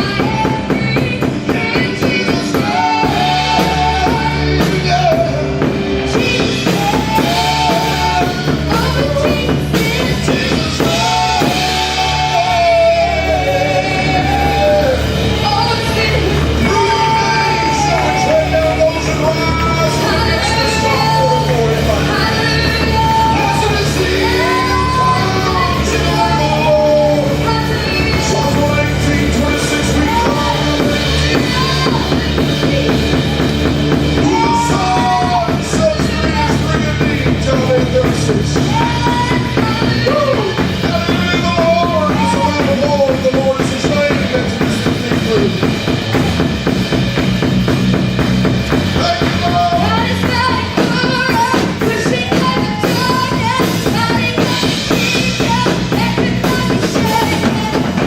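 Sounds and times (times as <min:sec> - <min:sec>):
person singing: 0:00.0 - 0:47.5, 0:48.4 - 0:58.0
bass guitar: 0:00.0 - 0:58.0
drum kit fast beat: 0:00.0 - 0:58.0
keyboard: 0:00.0 - 0:58.0.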